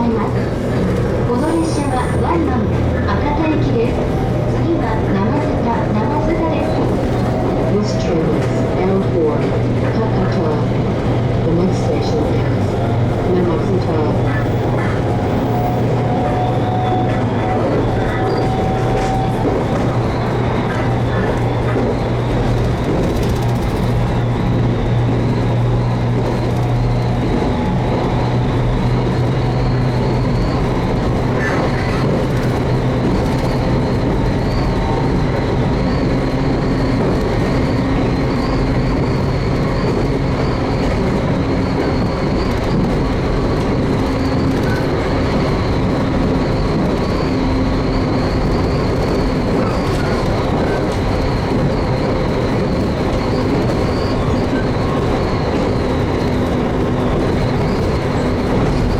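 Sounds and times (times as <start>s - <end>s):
train wheels rumbling: 0.0s - 58.9s.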